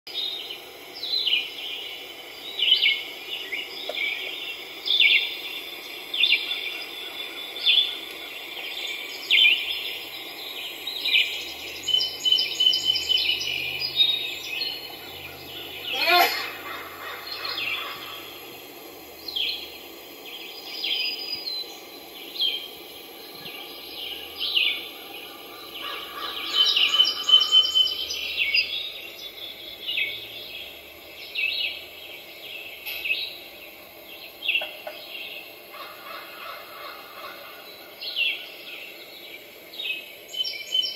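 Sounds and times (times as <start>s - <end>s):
small bird chirping: 0.1s - 40.9s.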